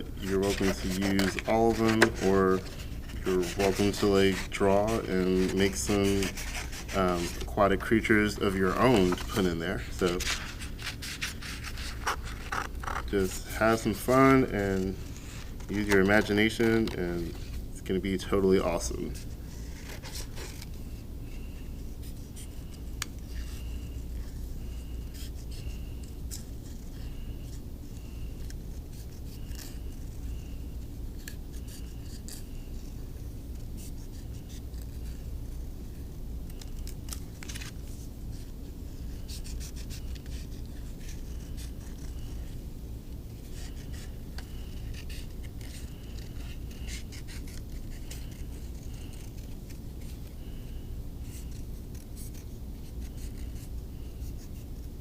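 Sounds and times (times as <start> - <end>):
scratching and rubbing on paper: 0.0 - 55.0
steady low hum: 0.0 - 55.0.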